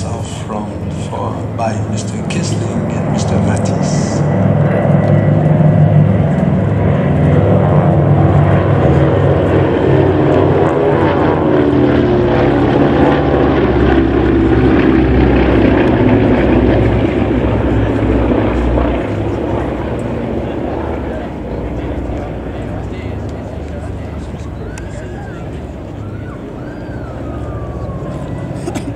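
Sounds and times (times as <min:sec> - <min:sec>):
propeller aircraft drone: 0:00.0 - 0:28.9.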